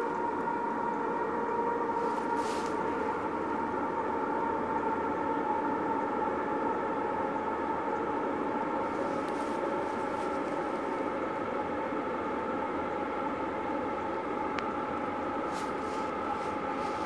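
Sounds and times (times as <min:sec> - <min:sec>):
train horn held tones: 0:00.0 - 0:17.0
train low rumble: 0:00.0 - 0:17.0.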